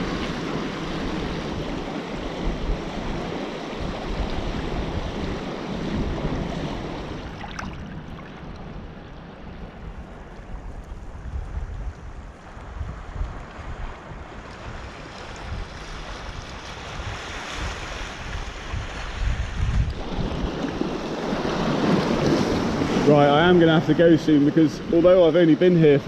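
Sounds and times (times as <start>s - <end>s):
sea waves washing over rocks: 0.0s - 9.0s, 13.6s - 26.0s
wind buffeting the microphone: 0.0s - 26.0s.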